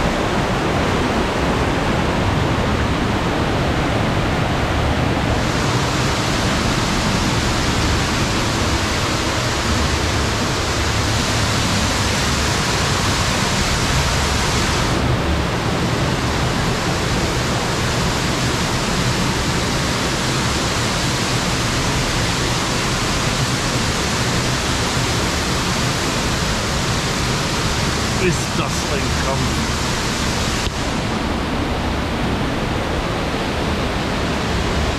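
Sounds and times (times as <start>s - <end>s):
waterfall rushing over rock: 0.0s - 34.9s.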